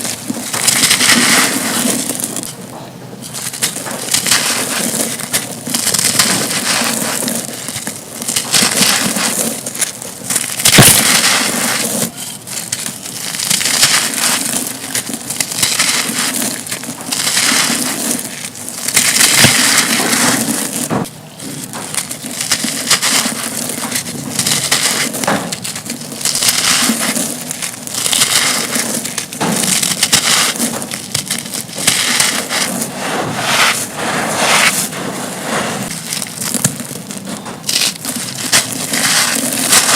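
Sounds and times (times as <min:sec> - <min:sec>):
concrete chunks crunching: 0:00.0 - 0:39.9.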